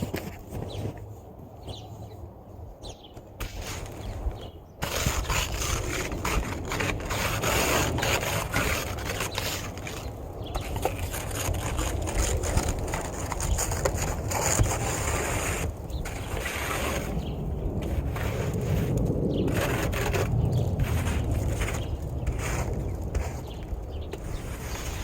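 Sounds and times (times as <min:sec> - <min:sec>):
wind rumbling on microphone: 0:00.0 - 0:25.0
snow being scraped: 0:03.4 - 0:25.0.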